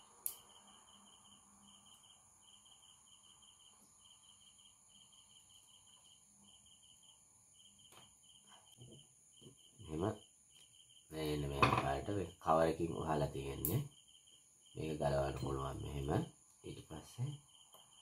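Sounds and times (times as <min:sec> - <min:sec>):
faint cricket chirping: 0:00.0 - 0:18.0.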